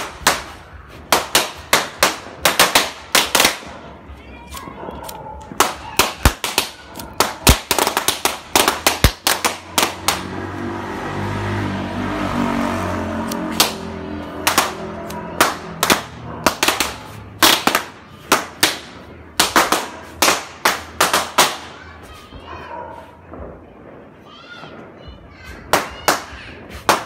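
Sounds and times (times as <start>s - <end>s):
firecrackers banging: 0.0s - 27.0s.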